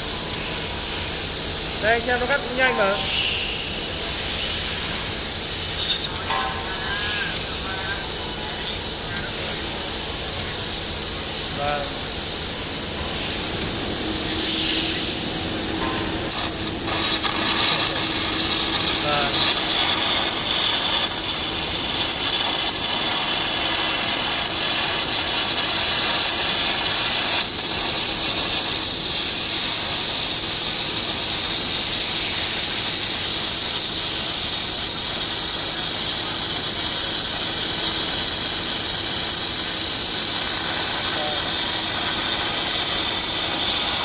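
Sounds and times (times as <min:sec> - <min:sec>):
high hiss of gas jet: 0:00.0 - 0:44.0.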